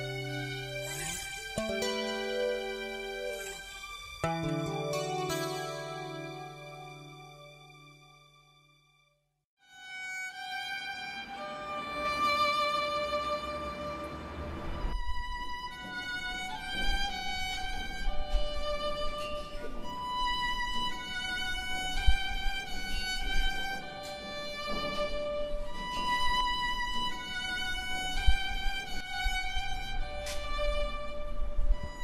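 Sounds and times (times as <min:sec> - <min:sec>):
slow violin melody: 0:00.0 - 0:09.0, 0:09.6 - 0:32.0.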